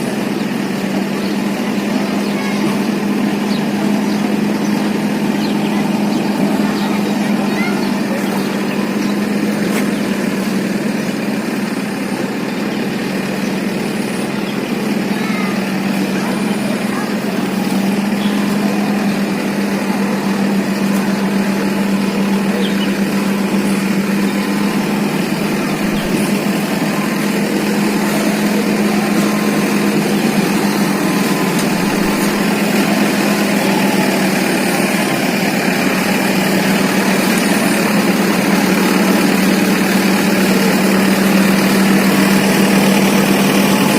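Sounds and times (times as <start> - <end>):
engine humming: 0.0 - 43.9.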